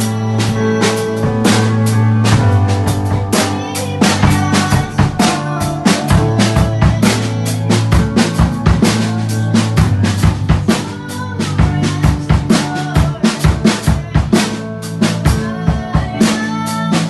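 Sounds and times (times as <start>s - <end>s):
bass notes: 0.0s - 17.0s
drum kit played fast: 0.0s - 17.0s
keyboard chords: 0.0s - 17.0s.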